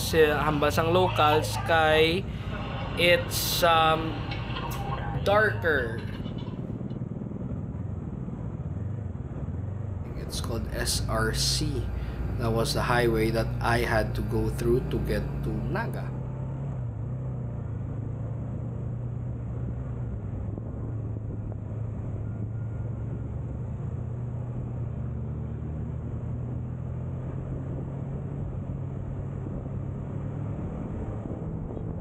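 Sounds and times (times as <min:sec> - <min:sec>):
motorcycle engine droning: 0:00.0 - 0:32.0.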